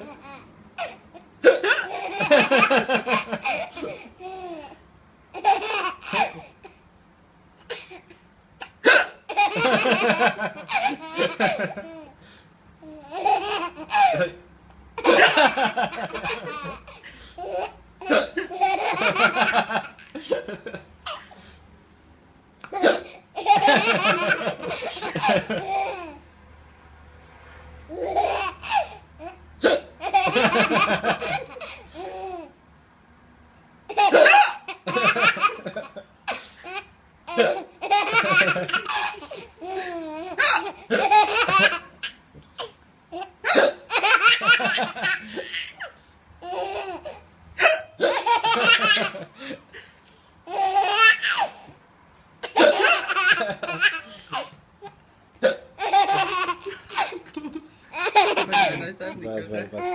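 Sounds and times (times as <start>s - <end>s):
baby laughing: 0.0s - 6.8s, 7.7s - 12.1s, 12.8s - 14.4s, 15.0s - 21.3s, 22.6s - 26.2s, 27.9s - 32.6s, 33.9s - 49.5s, 50.5s - 51.7s, 52.4s - 55.0s, 55.8s - 59.2s.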